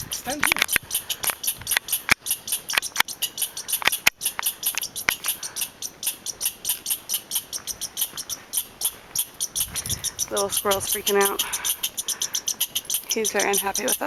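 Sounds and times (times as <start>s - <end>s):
squirrel alarm chattering: 0.0s - 14.0s.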